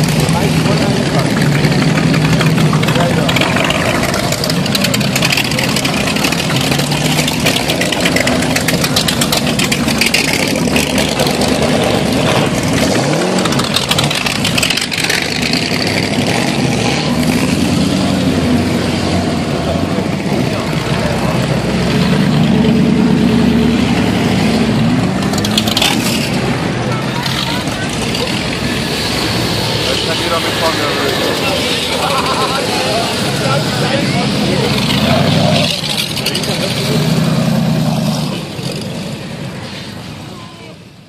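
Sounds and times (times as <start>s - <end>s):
motorcycles revving past: 0.0s - 40.3s.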